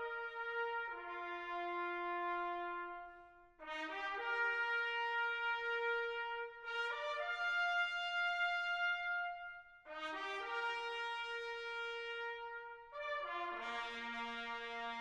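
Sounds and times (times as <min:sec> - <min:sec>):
brass instruments playing chords: 0:00.0 - 0:15.0.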